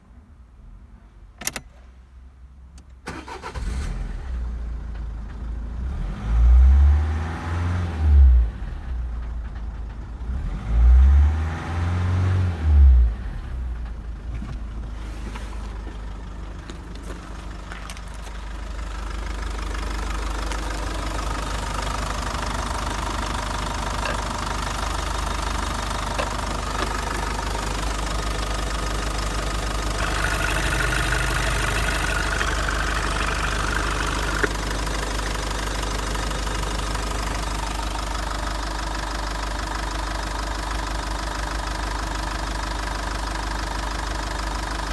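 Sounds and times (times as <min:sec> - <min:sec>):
diesel engine starting and idling: 0:03.0 - 0:44.9.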